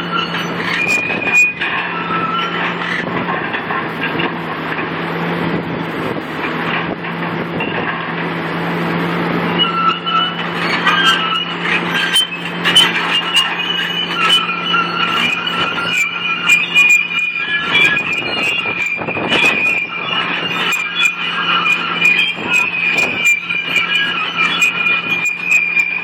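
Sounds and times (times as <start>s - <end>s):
excavator diesel engine running: 0.0s - 26.0s
metal squeals and clanks: 0.0s - 26.0s.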